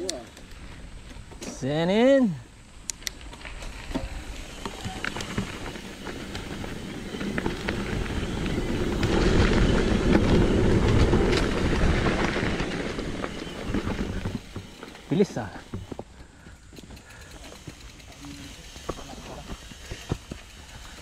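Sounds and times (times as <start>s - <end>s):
bike tyres rumbling over dirt: 0.5s - 21.0s.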